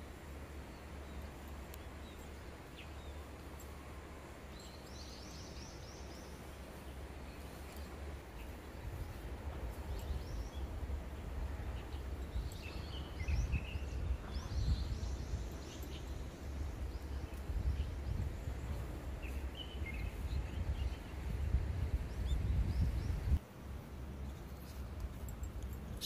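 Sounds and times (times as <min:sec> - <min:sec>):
small birds chirping: 0:00.0 - 0:26.0
wind rumbling on microphone: 0:00.0 - 0:26.0.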